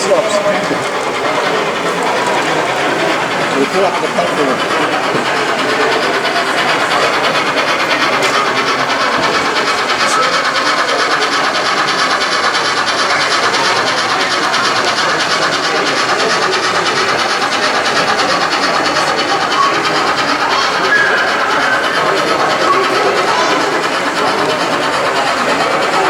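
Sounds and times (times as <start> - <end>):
model train motor whirring: 0.0 - 26.0
train wheels clicking on rail joints: 0.0 - 26.0.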